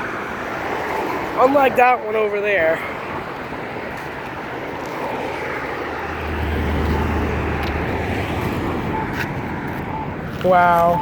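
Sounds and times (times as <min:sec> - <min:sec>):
road traffic noise: 0:00.0 - 0:11.0
vehicle engine approaching: 0:00.0 - 0:11.0.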